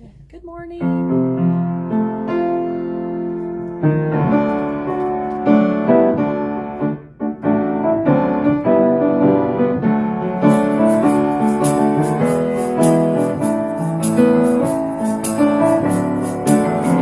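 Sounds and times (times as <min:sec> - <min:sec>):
piano playing hymn chords: 0:00.8 - 0:17.0.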